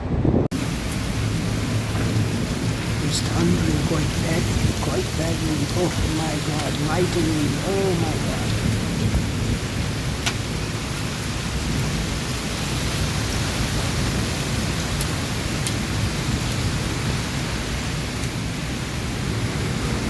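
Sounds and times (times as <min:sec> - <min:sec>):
low rumble of thunder: 0:00.0 - 0:20.0
heavy rain pouring: 0:00.5 - 0:20.0.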